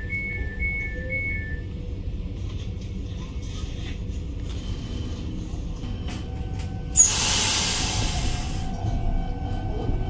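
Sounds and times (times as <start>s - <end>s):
train carriage rumble: 0.0s - 10.0s.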